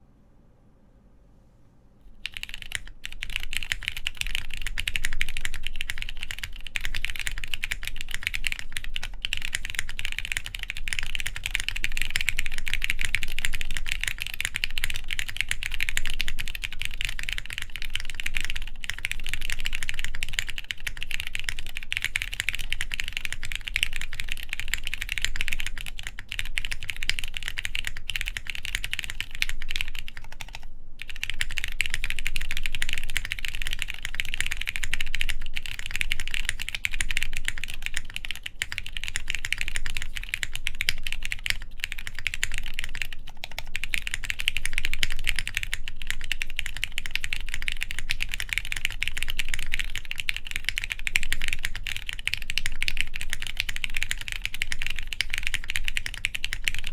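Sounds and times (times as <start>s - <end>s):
fast mechanical keyboard typing: 2.2s - 56.9s.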